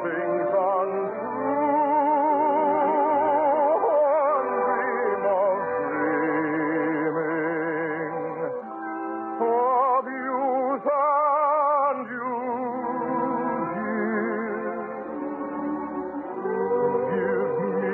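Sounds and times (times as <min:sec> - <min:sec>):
slow orchestral melody: 0:00.0 - 0:17.9.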